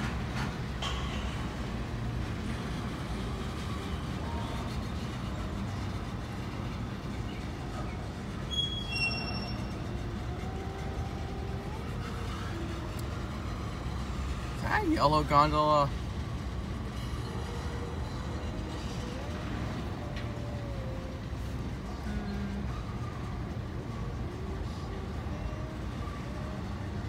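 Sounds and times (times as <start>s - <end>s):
freight train wheels rumbling: 0.0s - 27.0s
high wheel squeals: 2.5s - 27.0s.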